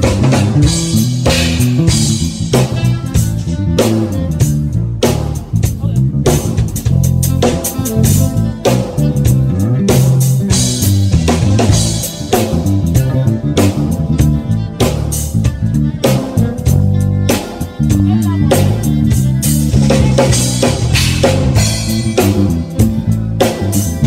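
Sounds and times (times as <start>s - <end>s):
drum and cymbal hits: 0.0s - 24.0s
live band playing: 0.0s - 24.0s.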